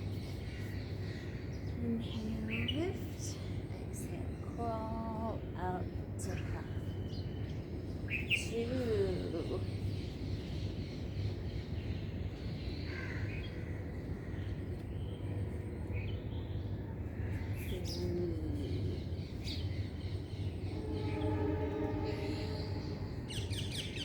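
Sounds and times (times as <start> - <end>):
birds chirping: 0.0 - 24.0
low background hum: 0.0 - 24.0.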